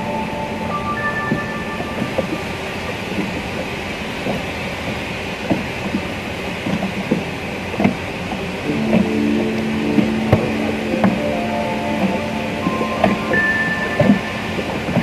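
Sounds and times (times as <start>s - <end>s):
choppy sea water around boat: 0.0s - 15.0s.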